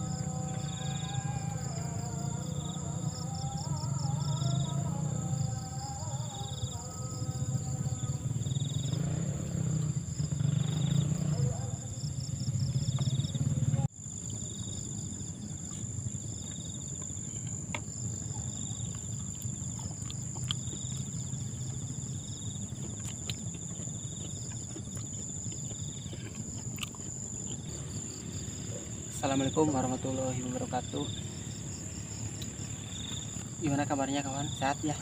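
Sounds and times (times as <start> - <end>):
cricket-like trills: 0.0 - 35.0
insects droning: 0.0 - 35.0.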